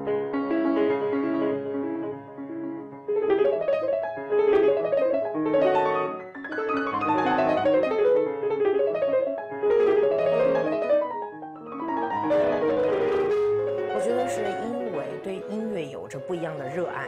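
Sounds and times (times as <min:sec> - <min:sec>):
solo grand piano: 0:00.0 - 0:17.0.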